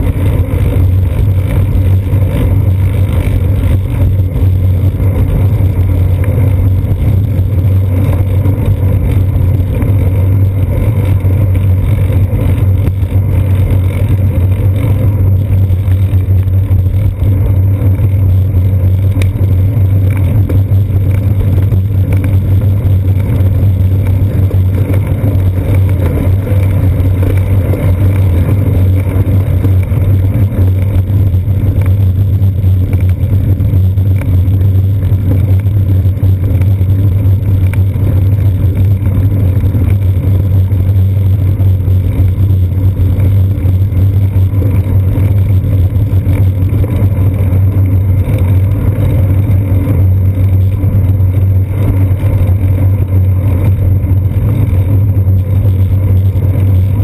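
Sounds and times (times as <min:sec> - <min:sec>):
bicycle rolling over pavement: 0:00.0 - 0:57.0
wind rumble: 0:00.0 - 0:57.0.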